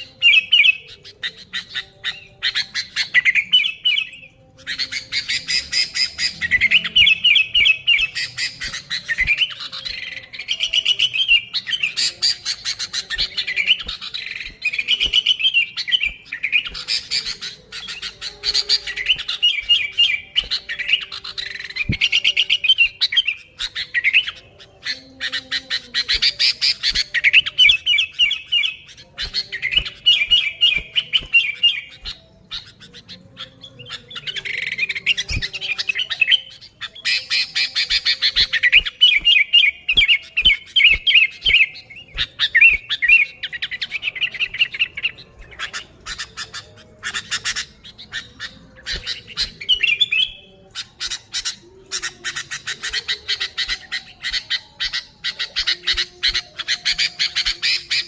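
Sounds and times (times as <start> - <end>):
bulbul chattering calls: 0.0 - 58.0
harsh clicking bird notes: 0.0 - 58.0.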